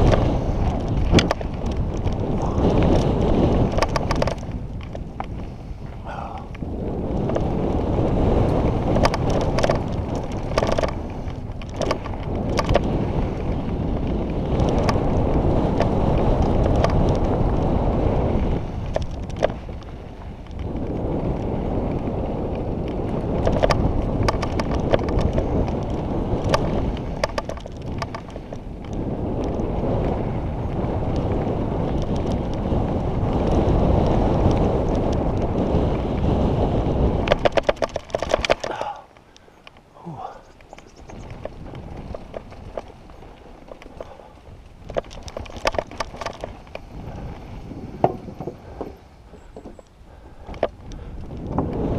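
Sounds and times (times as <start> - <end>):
bike clicks and rattles: 0.0 - 51.9
bike tyres rolling on dirt trail: 0.0 - 51.9
wind rushing over microphone: 0.0 - 51.9.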